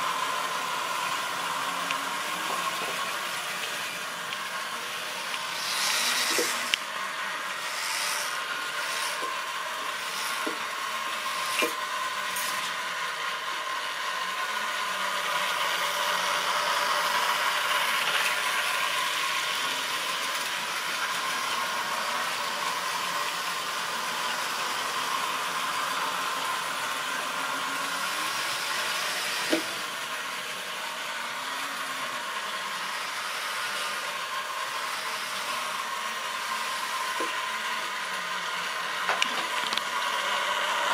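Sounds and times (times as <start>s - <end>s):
model train wheels whirring: 0.0s - 40.9s.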